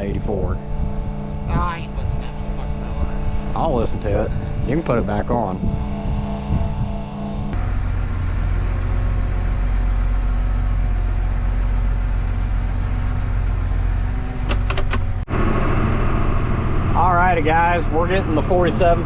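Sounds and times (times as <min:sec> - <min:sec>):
tractor diesel engine rumbling: 0:00.0 - 0:19.0.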